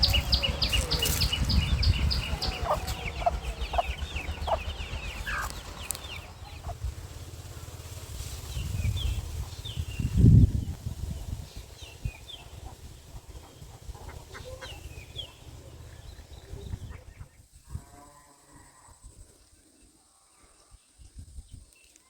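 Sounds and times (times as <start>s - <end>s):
birds chirping: 0.0s - 17.7s.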